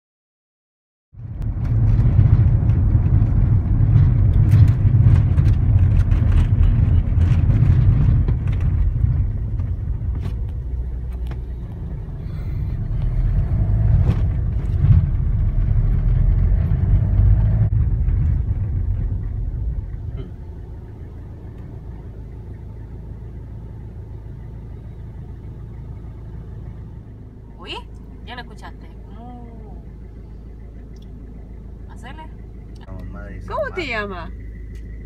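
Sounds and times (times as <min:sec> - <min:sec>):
car engine and road noise: 0:01.1 - 0:35.0.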